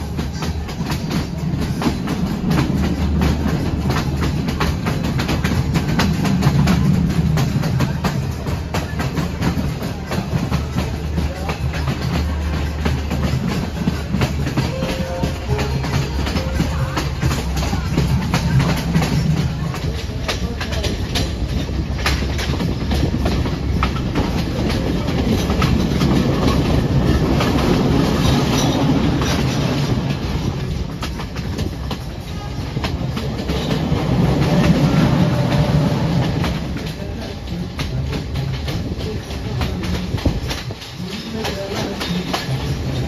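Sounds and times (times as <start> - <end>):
clickety-clack of rail joints: 0.0 - 43.0
train wheels rumbling on rail: 0.0 - 43.0.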